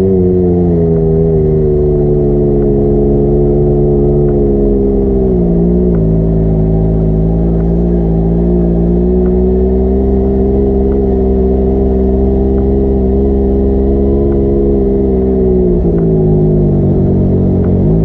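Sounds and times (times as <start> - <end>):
off-road vehicle engine: 0.0 - 18.0.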